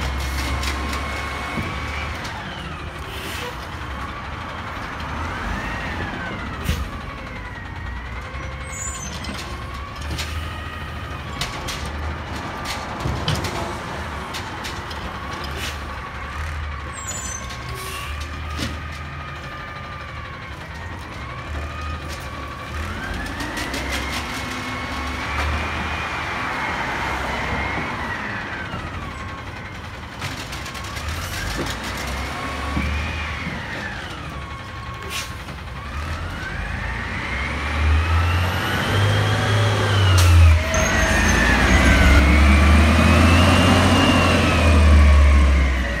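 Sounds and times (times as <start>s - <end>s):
garbage truck engine revving: 0.0s - 46.0s
side-loader arm lifting a cart: 0.0s - 46.0s.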